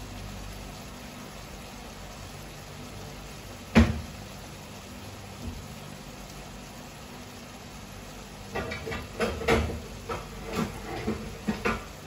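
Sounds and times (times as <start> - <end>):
sauce simmering in frying pan: 0.0 - 12.0.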